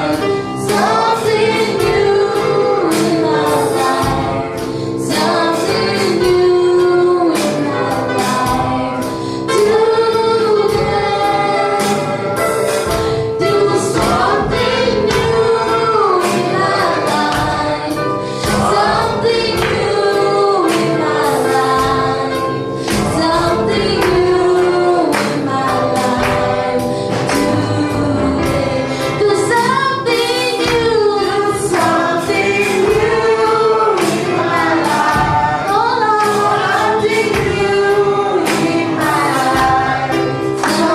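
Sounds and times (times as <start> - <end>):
band with steady beat: 0.0 - 40.9
gospel group singing: 0.0 - 40.9.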